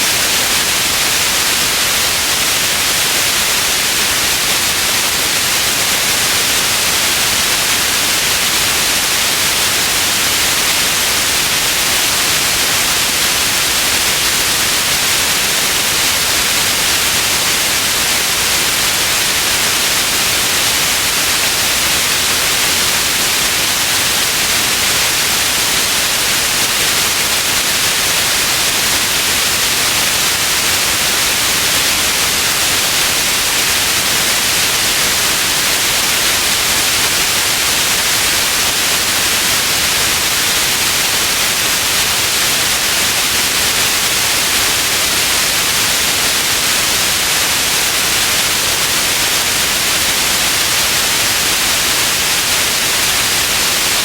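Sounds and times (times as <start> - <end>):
synthetic white noise hiss: 0.0 - 54.0.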